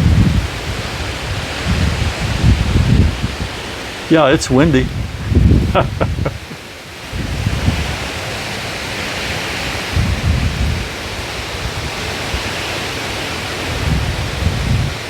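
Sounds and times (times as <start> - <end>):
wind and rain hiss: 0.0 - 15.0
wind gusts hitting microphone: 0.0 - 15.0.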